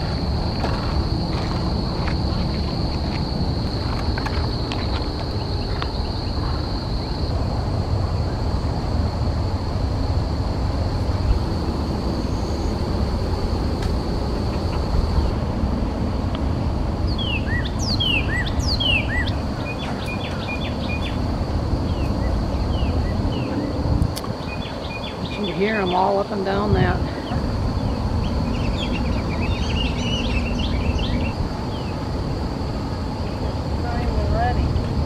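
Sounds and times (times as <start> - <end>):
wild birds chirping: 0.0 - 7.3, 11.0 - 15.6, 16.6 - 35.0
low outdoor rumble: 0.0 - 35.0.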